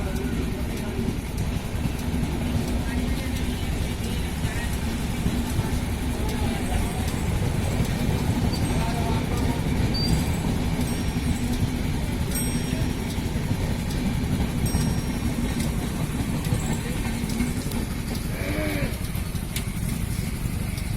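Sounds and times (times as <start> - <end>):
train rumbling on track: 0.0 - 20.9.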